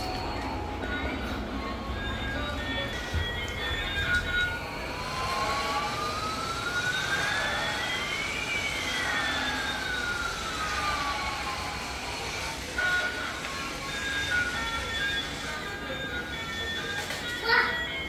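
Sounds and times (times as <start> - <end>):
toy electronic whooshing whine: 1.9 - 17.6.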